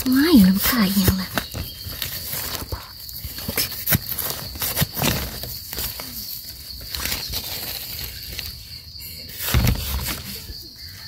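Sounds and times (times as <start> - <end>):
dry leaves rustling: 1.0 - 10.7.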